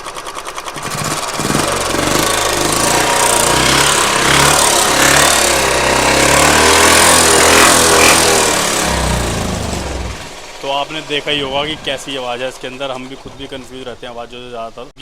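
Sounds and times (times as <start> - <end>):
motorcycle engine revving: 0.0 - 14.8
mechanical engine noise: 0.0 - 15.0.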